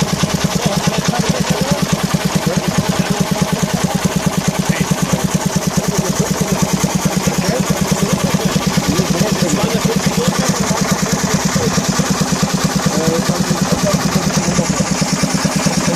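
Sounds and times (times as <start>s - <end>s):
steam engine exhaust beating: 0.0s - 15.9s.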